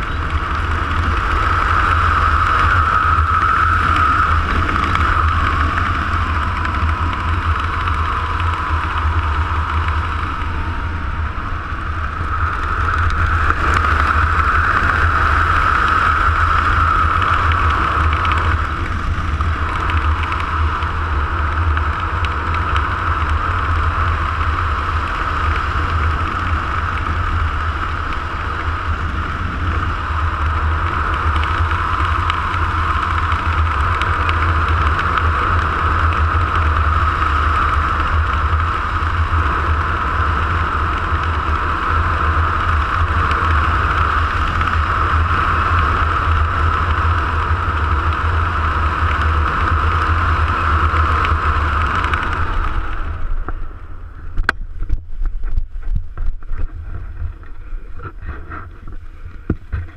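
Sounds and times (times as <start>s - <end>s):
small aircraft motor droning: 0.0s - 59.9s
wind rushing over camera: 0.0s - 59.9s.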